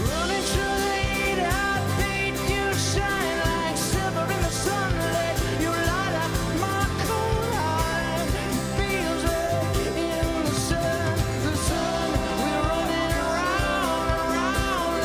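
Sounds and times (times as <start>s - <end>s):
live rock band playing: 0.0s - 15.0s
man singing: 0.0s - 15.0s.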